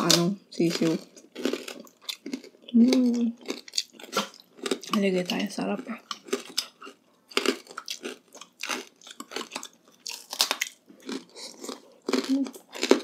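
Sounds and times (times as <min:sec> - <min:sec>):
crunching and chewing: 0:00.0 - 0:13.0.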